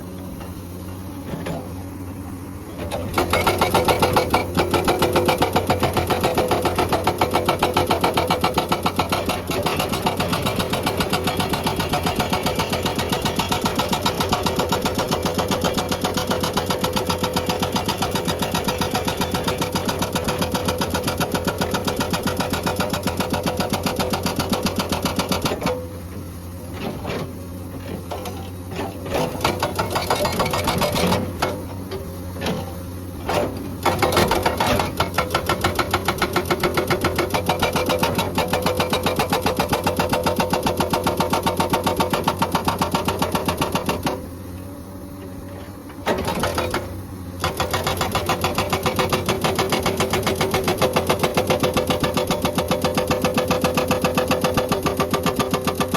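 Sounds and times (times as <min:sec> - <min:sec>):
excavator engine running: 0:00.0 - 0:55.9
hydraulic rock breaker hammering: 0:02.8 - 0:55.9.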